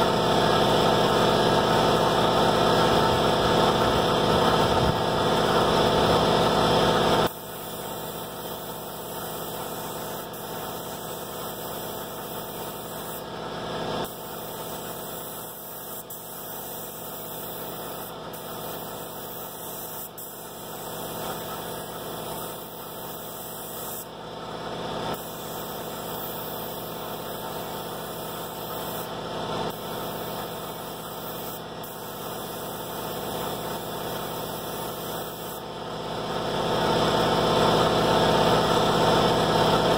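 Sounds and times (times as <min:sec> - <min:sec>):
air compressor running: 0:00.0 - 0:39.9
paint spray gun hissing: 0:00.1 - 0:24.2, 0:24.9 - 0:35.8.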